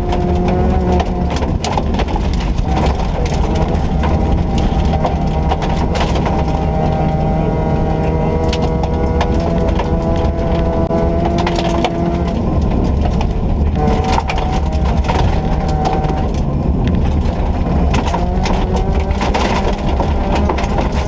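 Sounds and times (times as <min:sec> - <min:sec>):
car engine running under load: 0:00.0 - 0:21.0
sharp clicks and knocks: 0:00.0 - 0:21.0
steady low drone: 0:00.0 - 0:21.0.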